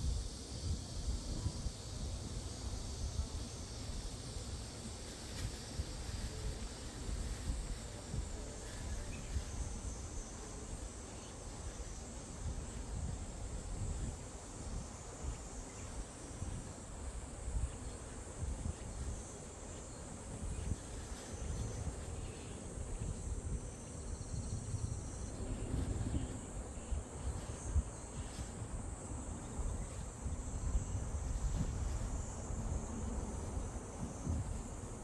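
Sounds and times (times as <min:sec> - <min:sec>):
crickets chirping: 0:00.0 - 0:35.0
wind rumbling on microphone: 0:00.0 - 0:35.0.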